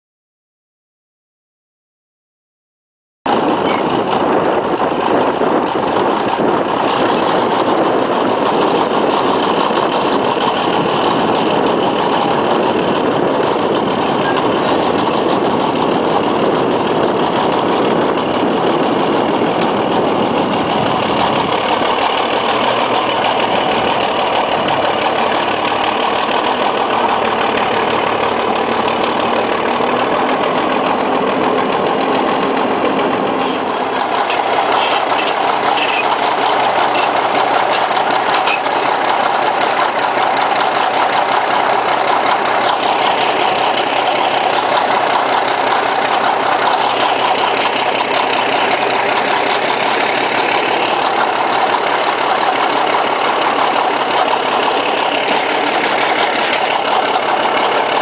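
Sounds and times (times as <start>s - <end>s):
crawler tractor diesel engine: 3.3s - 58.0s.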